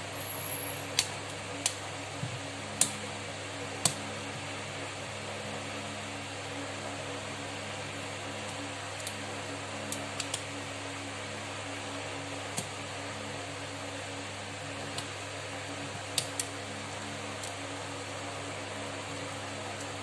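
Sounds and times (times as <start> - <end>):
fan hum: 0.0 - 20.0.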